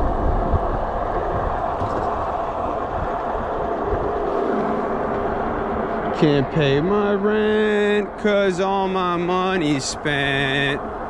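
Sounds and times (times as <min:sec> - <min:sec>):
faint steady whine: 0:00.0 - 0:11.0
wind rushing over microphone: 0:00.0 - 0:11.0.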